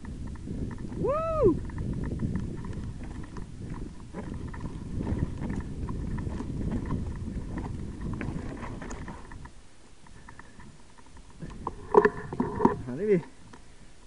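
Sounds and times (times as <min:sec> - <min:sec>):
bike rattling clicks: 0:00.0 - 0:13.7
bike tyres crunching over rocks: 0:00.0 - 0:13.8.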